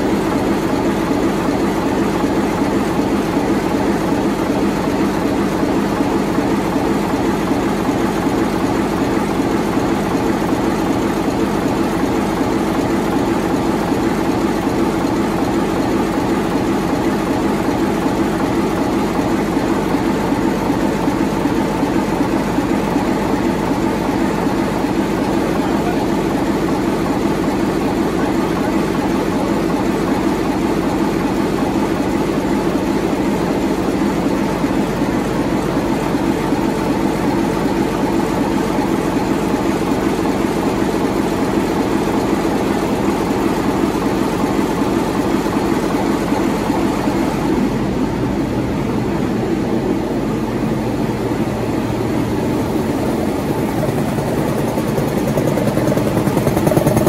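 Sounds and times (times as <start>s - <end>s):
diesel engine pulsing drone: 0.0s - 57.0s.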